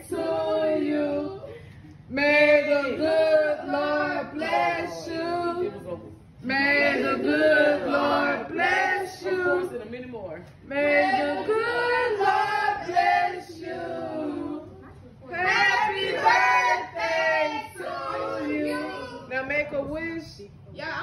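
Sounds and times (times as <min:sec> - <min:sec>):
group singing together: 0:00.0 - 0:09.9, 0:10.7 - 0:19.3.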